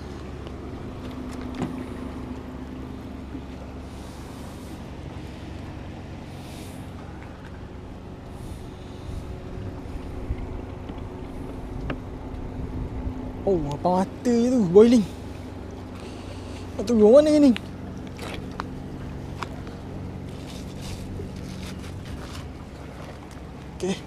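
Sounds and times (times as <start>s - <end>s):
low engine hum: 0.0s - 24.0s.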